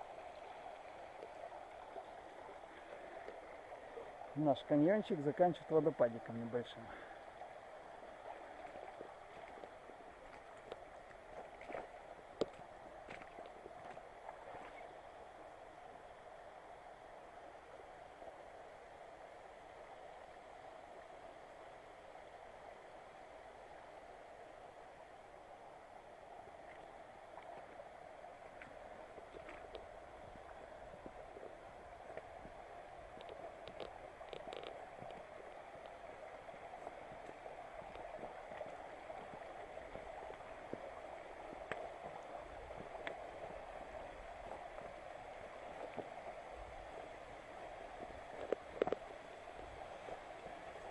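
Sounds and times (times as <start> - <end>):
stream running over stones: 0.0 - 50.9.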